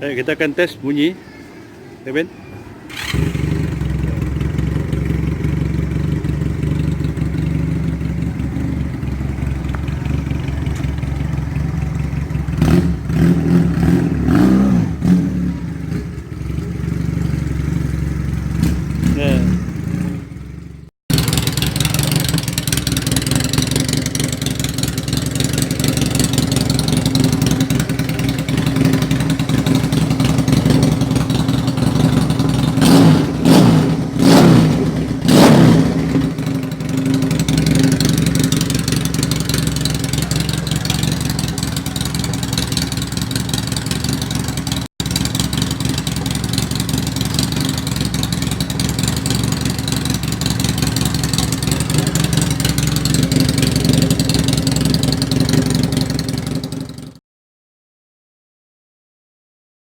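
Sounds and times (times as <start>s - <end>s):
motorcycle engine idling and revving: 2.6s - 57.2s.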